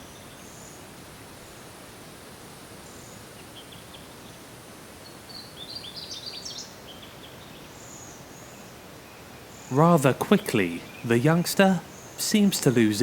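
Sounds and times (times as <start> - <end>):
forest background hiss: 0.0 - 13.0.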